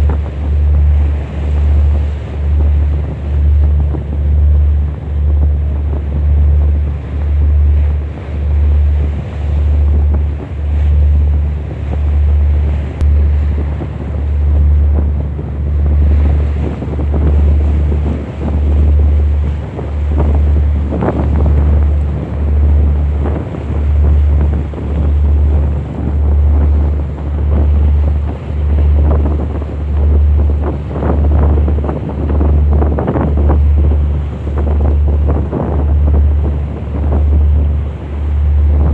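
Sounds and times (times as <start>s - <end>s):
deep low pulsing throb: 0.0s - 38.9s
waves washing: 0.0s - 38.9s
wind buffeting microphone: 0.0s - 38.9s.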